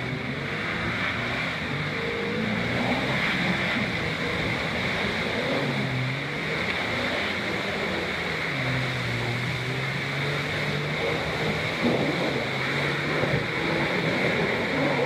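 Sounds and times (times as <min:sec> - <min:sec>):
engine revving under load: 0:00.0 - 0:15.0
water spray and splashing: 0:00.0 - 0:15.0.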